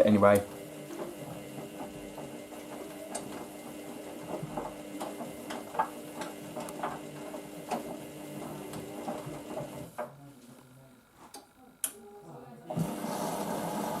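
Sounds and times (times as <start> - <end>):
washing machine hum: 0.0 - 10.4, 11.1 - 14.0.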